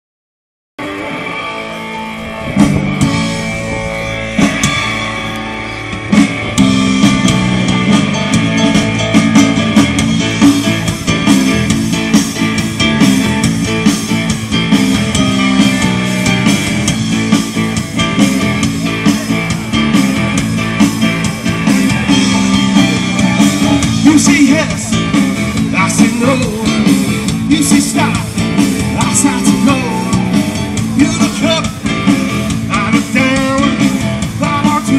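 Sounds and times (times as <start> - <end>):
rock and roll band playing: 0.8 - 34.9.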